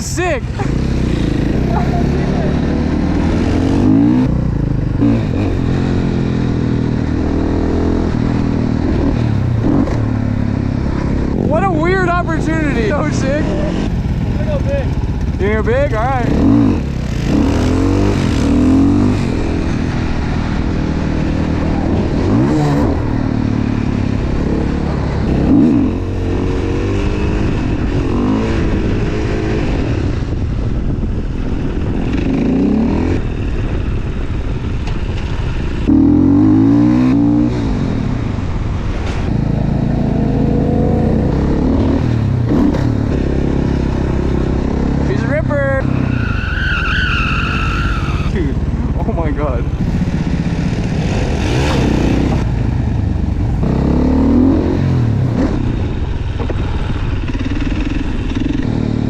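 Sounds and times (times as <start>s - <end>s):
dirt bike engine revving: 0.0s - 29.9s, 35.5s - 38.1s, 39.0s - 59.0s.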